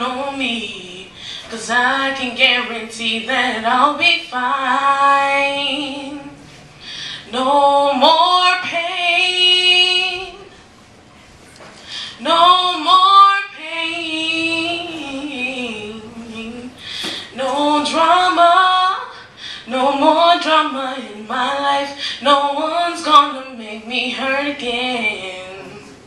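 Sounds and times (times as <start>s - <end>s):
woman singing unaccompanied: 0.0s - 6.4s, 7.3s - 10.5s, 12.2s - 26.0s.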